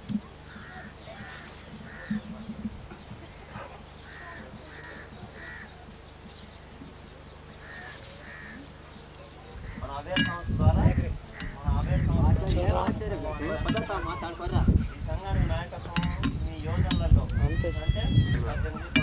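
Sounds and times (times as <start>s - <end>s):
bird harsh calls: 0.0s - 19.0s
low steady hum: 0.0s - 19.0s.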